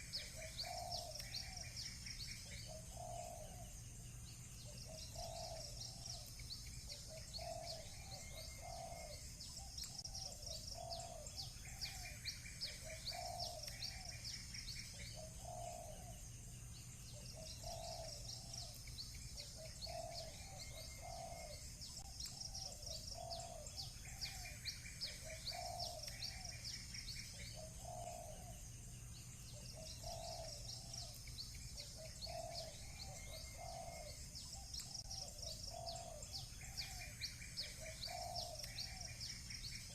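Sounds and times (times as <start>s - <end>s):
buzzy bird trills: 0.0s - 39.9s
small birds chirping: 0.0s - 39.9s
low repeating bird call: 4.6s - 16.3s, 17.1s - 28.7s, 29.5s - 39.9s.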